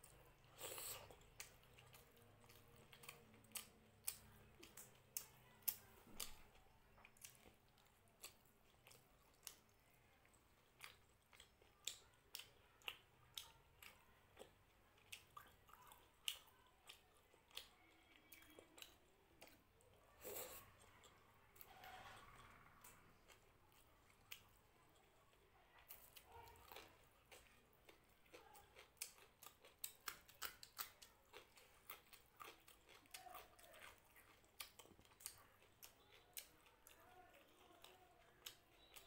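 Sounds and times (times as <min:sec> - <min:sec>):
chewing with mouth clicks: 0:00.0 - 0:39.0.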